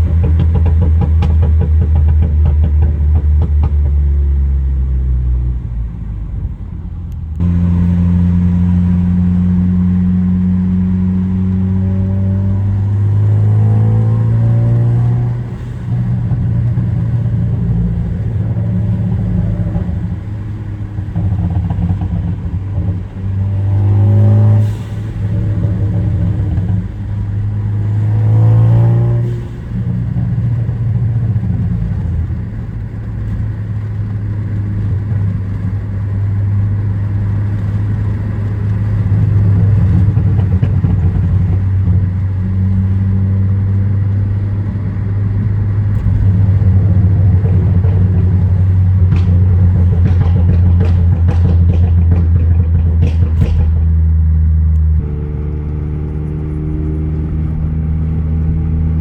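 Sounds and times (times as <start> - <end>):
exhaust crack: 0.0 - 59.0
turbocharged car engine accelerating: 0.0 - 59.0.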